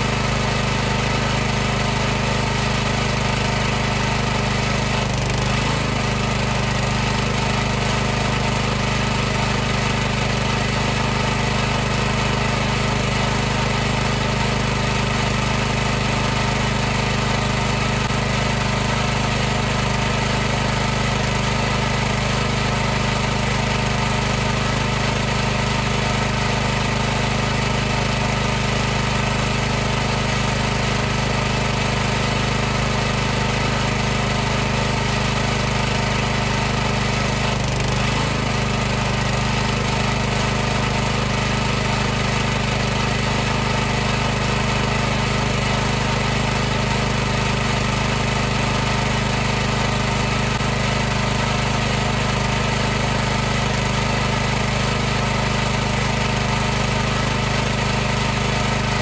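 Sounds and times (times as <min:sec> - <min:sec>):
pressure washer running: 0:00.0 - 0:59.0.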